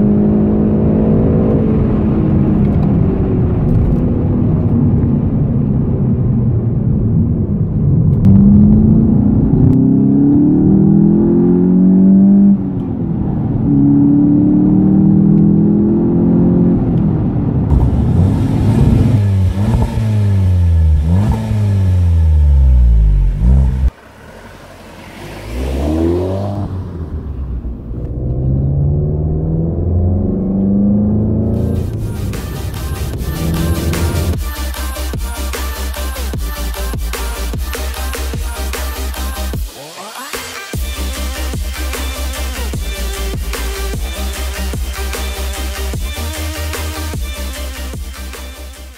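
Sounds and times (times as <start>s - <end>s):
car engine accelerating: 0.0s - 39.6s.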